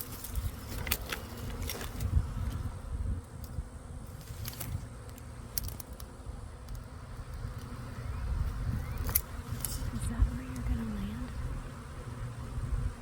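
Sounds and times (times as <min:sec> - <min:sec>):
honeybee swarm buzzing: 0:00.0 - 0:13.0.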